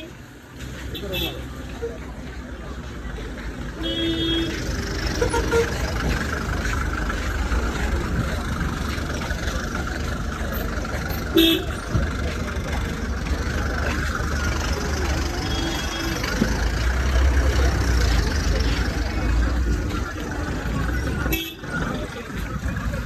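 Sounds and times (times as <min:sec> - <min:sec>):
traffic engine and road noise: 0:00.0 - 0:23.0.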